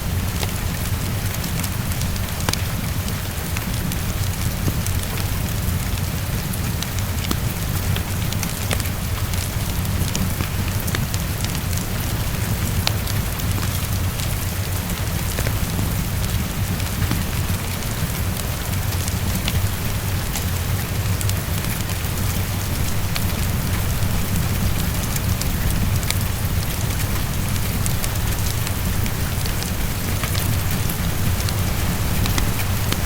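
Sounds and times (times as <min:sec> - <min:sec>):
heavy rain against a window: 0:00.0 - 0:33.0
fireplace crackling: 0:00.1 - 0:33.0.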